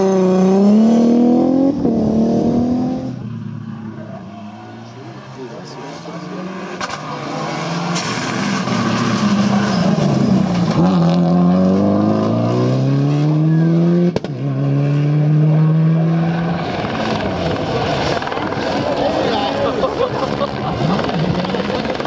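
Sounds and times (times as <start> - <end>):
rally car engines at full throttle: 0.0 - 22.0.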